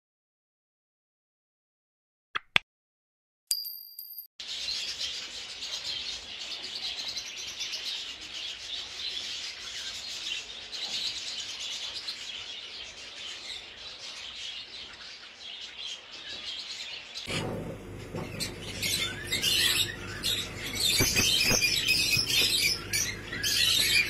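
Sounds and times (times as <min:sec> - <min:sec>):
finches chirping: 0:04.4 - 0:24.0.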